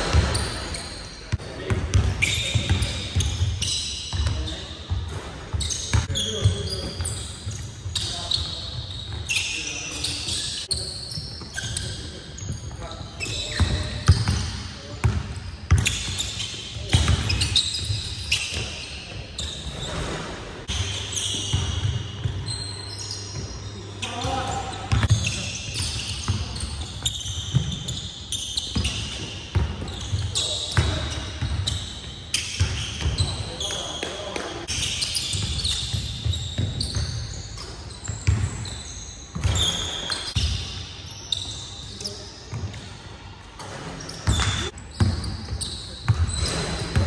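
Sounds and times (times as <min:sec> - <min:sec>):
sneakers squeaking: 0:00.0 - 0:47.0.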